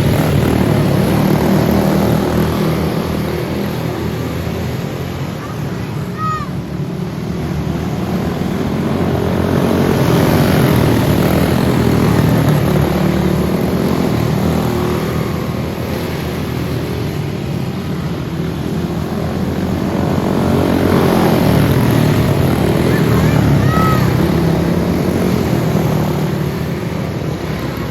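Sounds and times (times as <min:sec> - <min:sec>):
racing kart engines droning: 0:00.0 - 0:27.9.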